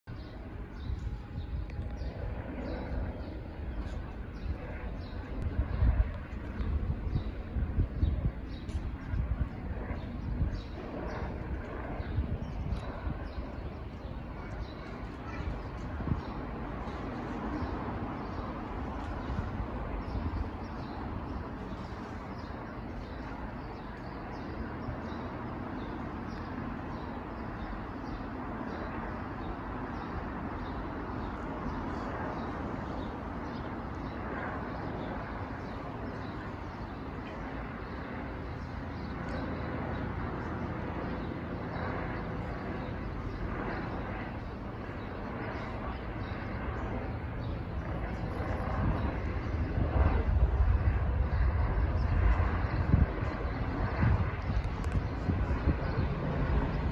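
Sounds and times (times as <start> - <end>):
city noise: 0.1 - 56.9
distant helicopter drone: 0.1 - 56.9.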